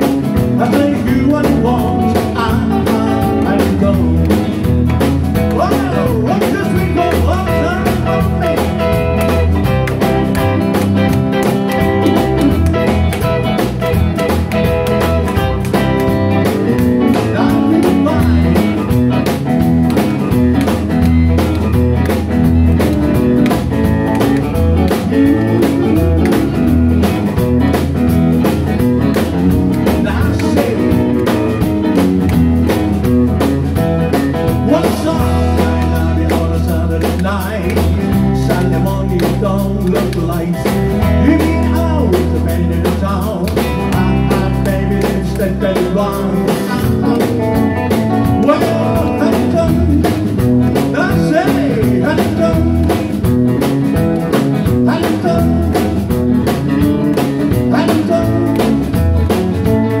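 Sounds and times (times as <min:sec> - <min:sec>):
rockabilly band playing: 0:00.0 - 1:00.0.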